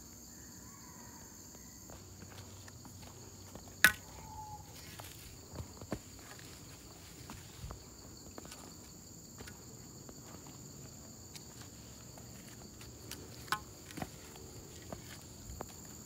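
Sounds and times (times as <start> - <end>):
insects chirping: 0.0 - 16.0
footsteps on dirt trail: 1.5 - 16.0.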